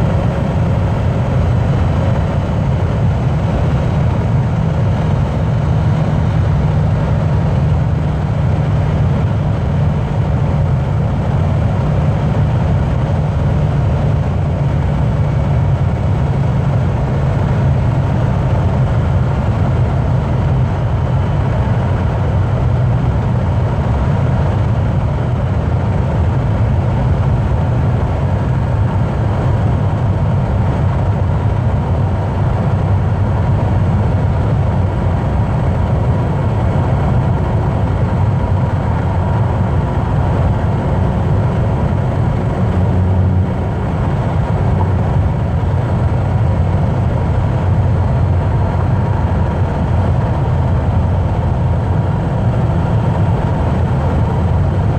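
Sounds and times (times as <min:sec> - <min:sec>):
car engine and tyres rumbling: 0:00.0 - 0:54.9.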